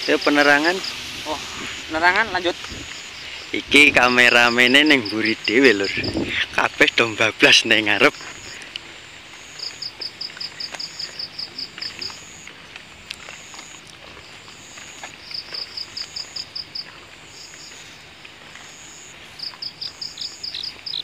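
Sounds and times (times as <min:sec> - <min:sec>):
crickets chirping: 0:00.0 - 0:21.0
footsteps through grass: 0:00.0 - 0:21.0
steady high insect trill: 0:00.0 - 0:21.0.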